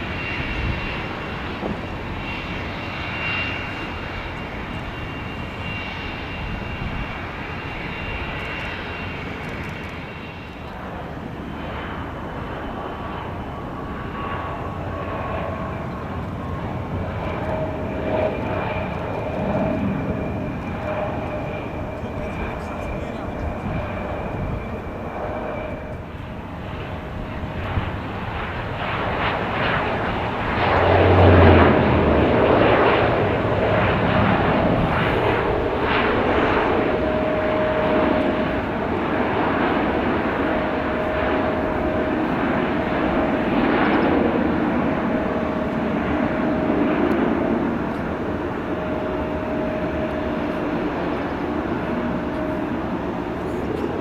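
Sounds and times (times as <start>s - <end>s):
jet airliner engines passing: 0.0s - 54.0s.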